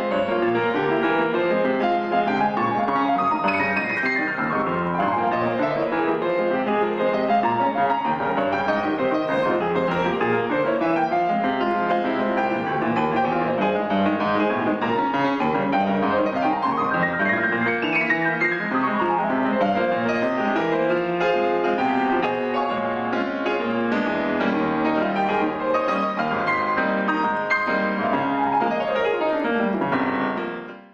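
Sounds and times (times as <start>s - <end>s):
solo piano playing: 0.0s - 30.9s.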